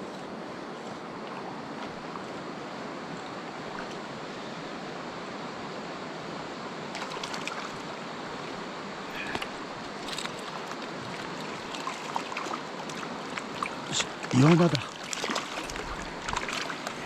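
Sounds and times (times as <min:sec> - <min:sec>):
stream rushing over rocks: 0:00.3 - 0:17.0.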